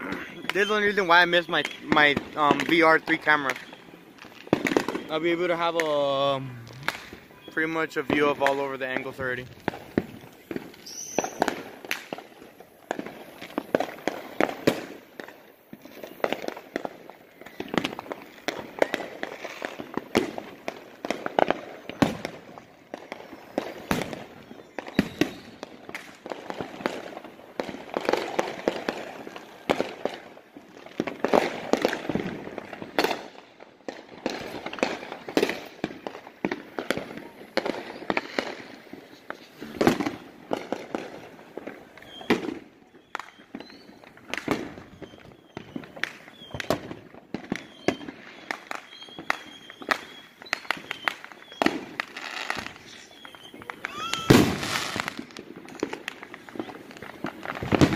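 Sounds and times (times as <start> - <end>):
fireworks bangs and pops: 0.0 - 57.9.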